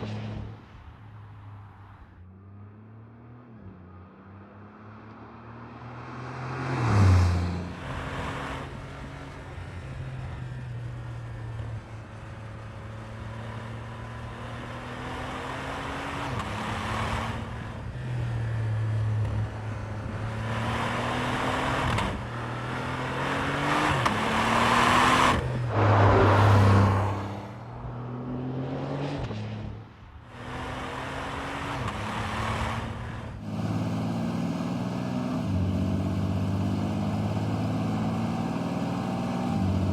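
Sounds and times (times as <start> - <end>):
car engine accelerating through gears: 2.4 - 11.8, 12.5 - 39.9.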